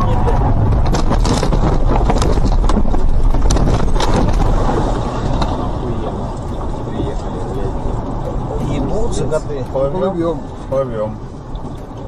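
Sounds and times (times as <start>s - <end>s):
car engine and road noise: 0.0s - 12.0s
water rushing and splashing: 0.0s - 12.0s.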